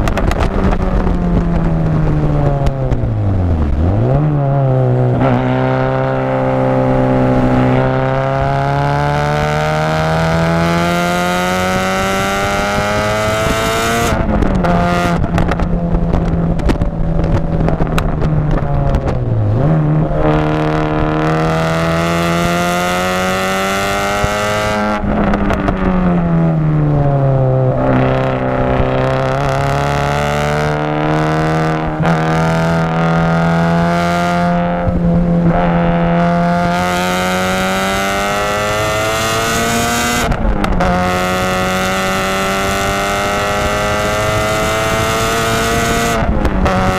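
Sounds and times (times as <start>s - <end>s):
car engine revving and shifting: 0.0s - 46.9s.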